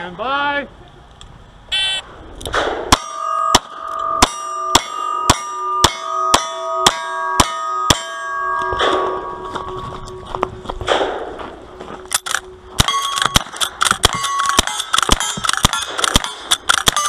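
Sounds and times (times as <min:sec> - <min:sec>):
steel target ringing: 0:02.6 - 0:17.0.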